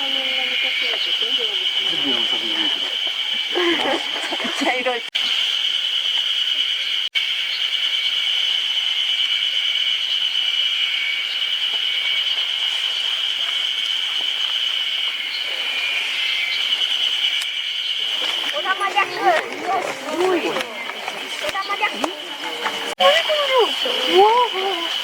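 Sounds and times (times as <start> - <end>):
insects calling: 0.0 - 25.0.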